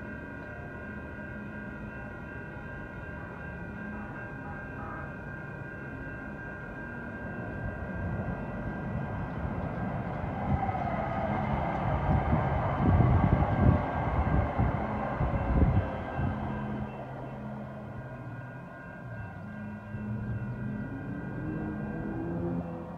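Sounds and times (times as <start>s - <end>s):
train rumble: 0.0s - 22.9s
train whine falling in pitch: 0.0s - 22.9s.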